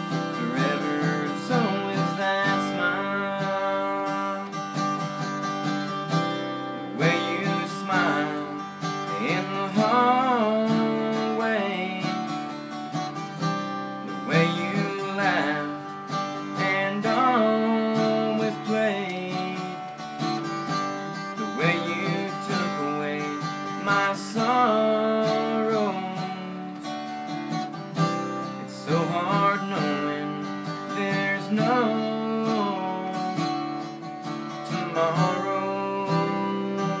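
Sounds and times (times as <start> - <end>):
acoustic guitar playing country: 0.0 - 37.0.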